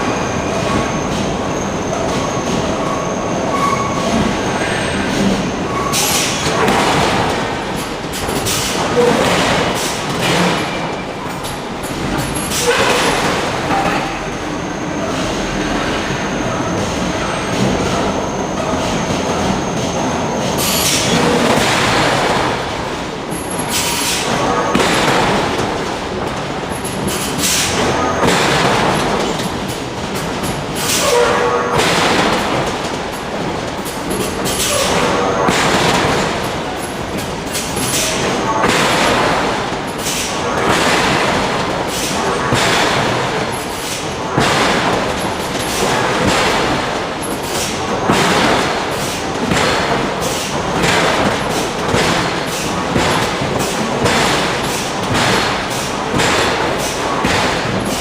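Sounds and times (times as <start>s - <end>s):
loud industrial noise: 0.0s - 58.0s.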